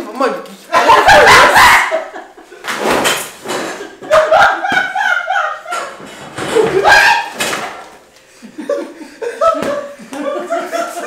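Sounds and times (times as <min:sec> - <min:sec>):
people laughing and exclaiming: 0:00.7 - 0:02.8, 0:03.6 - 0:11.0.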